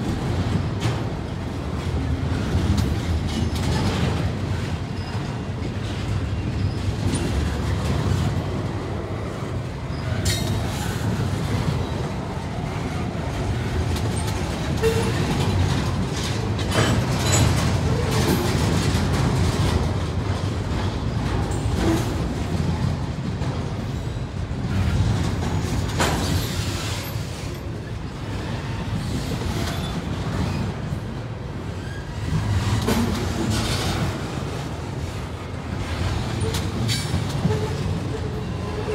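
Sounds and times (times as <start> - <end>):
train cars clanking: 0.0 - 38.9
train wheels rumbling on rail: 0.0 - 38.9.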